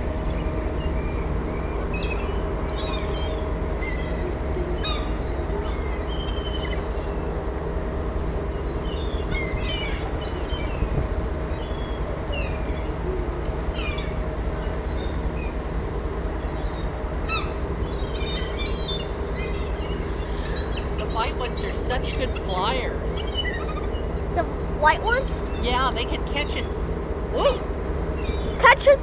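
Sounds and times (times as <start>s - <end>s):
ferry engine drone: 0.0s - 29.0s
seagulls crying: 0.0s - 29.0s.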